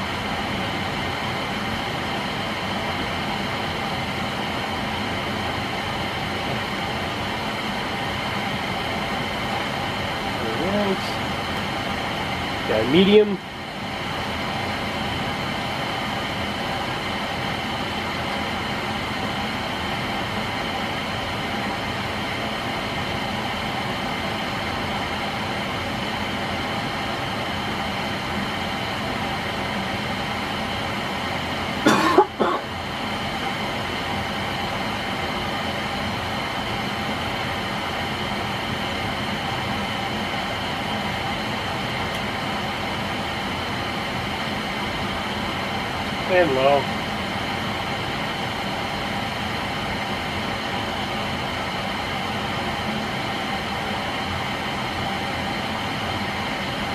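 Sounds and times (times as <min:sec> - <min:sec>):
ceiling fan motor hum: 0:00.0 - 0:56.9.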